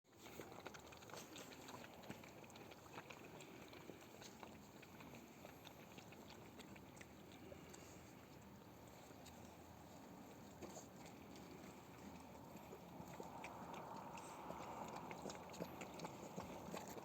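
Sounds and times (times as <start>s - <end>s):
animals chewing crunchily: 0.0s - 17.0s.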